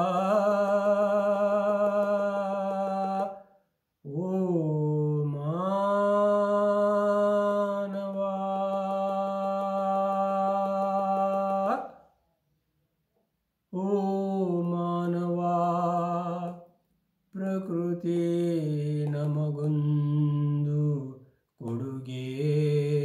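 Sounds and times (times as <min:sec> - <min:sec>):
man singing chant-like melody: 0:00.0 - 0:12.0, 0:13.7 - 0:16.7, 0:17.3 - 0:23.0.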